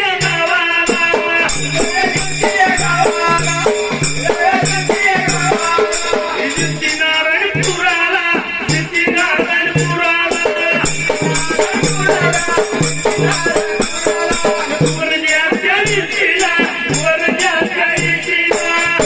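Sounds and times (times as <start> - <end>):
jingling shaken percussion: 0.0 - 19.0
steady drum beat: 0.0 - 19.0.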